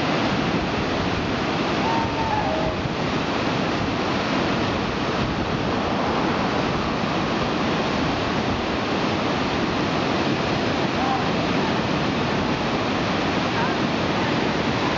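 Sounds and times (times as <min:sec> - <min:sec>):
rapids rushing: 0:00.0 - 0:14.9.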